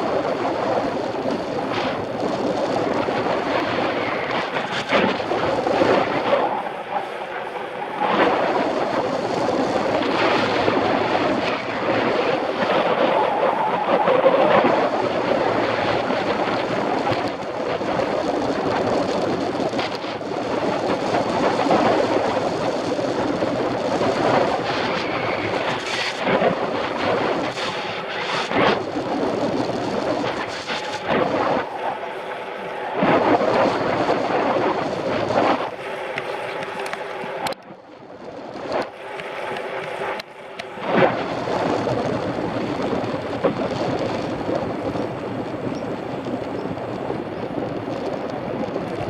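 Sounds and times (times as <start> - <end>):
mountain bike rattling rumble: 0.0 - 49.0
wind on microphone: 0.0 - 49.0.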